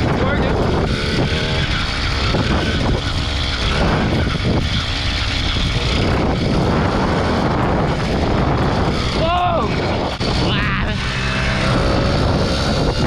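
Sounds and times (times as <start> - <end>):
two-stroke engine buzzing: 0.0 - 13.0.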